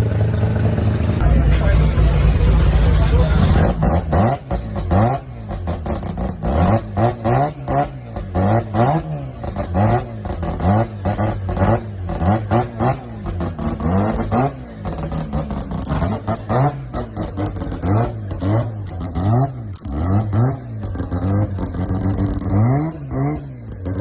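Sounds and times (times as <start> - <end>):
engine revving in blips: 1.2 - 24.0.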